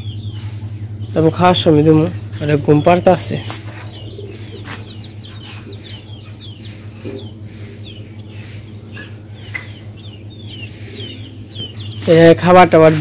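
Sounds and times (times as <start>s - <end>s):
chicks peeping: 0.0s - 13.0s
low hum: 0.0s - 13.0s.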